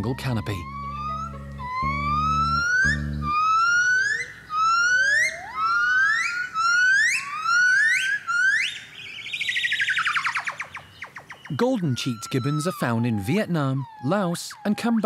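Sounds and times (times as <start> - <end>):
gibbons whooping: 0.0 - 8.7, 11.5 - 15.0.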